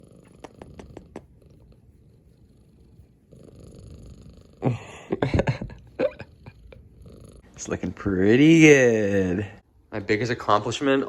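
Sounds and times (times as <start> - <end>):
cat purring: 0.0 - 9.6.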